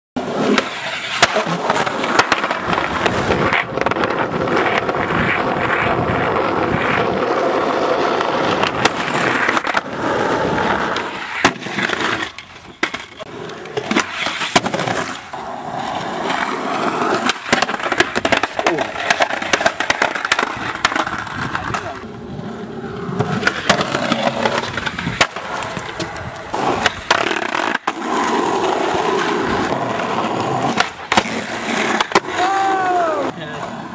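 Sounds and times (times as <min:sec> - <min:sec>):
skateboard clacking on ground: 0:00.2 - 0:33.9
skateboard wheels rolling on concrete: 0:00.2 - 0:33.9.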